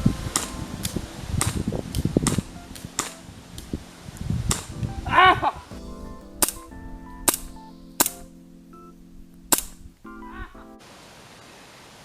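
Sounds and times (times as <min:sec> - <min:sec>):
held music chords: 0:00.0 - 0:10.8.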